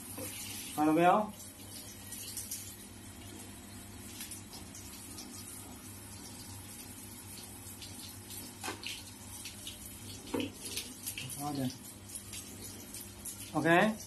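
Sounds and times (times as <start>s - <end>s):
water splashing on light fixtures: 0.0s - 14.0s.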